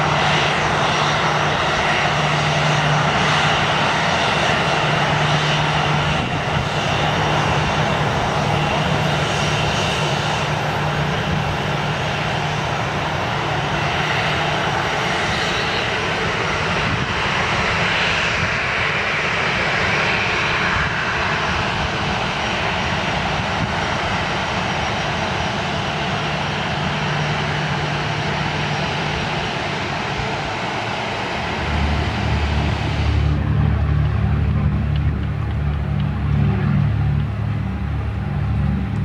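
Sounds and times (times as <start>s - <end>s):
airplane engines roaring: 0.0s - 39.0s.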